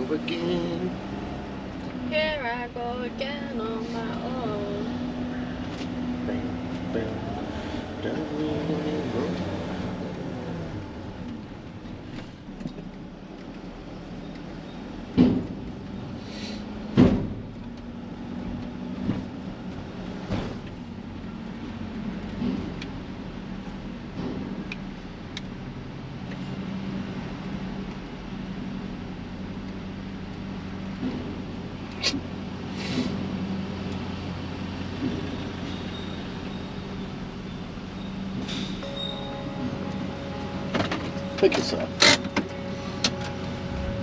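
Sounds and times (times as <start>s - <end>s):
van engine humming: 0.0s - 44.0s.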